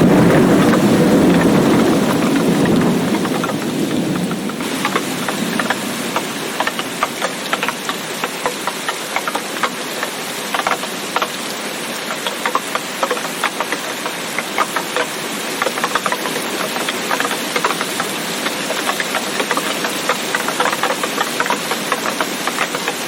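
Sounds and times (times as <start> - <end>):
rain hiss: 0.0 - 23.0
raindrops tapping on hard surface: 0.0 - 23.0.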